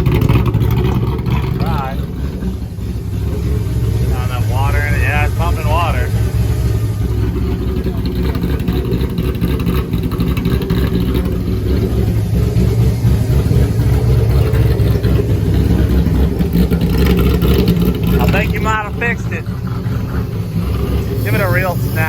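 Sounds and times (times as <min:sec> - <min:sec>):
supercharged engine idling: 0:00.0 - 0:22.0.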